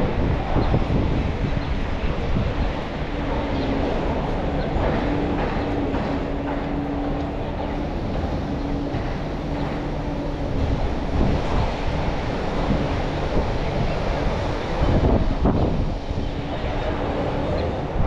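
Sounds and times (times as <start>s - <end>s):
low hum: 0.0s - 18.0s
traffic noise: 0.0s - 18.0s
wind buffeting microphone: 0.0s - 18.0s.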